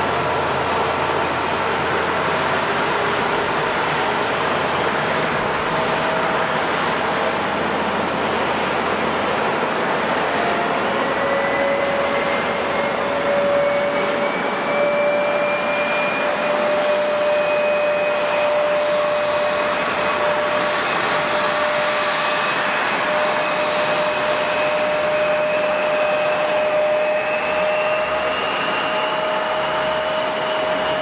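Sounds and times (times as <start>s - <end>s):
jet engines rushing and whining: 0.0s - 31.0s.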